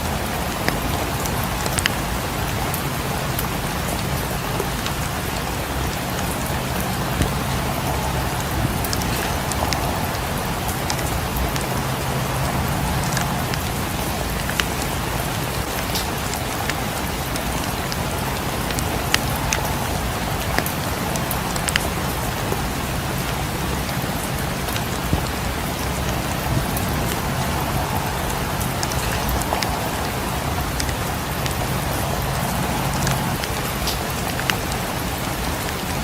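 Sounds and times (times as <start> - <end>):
fireplace crackling: 0.0 - 34.7
steady rain falling: 0.0 - 36.0.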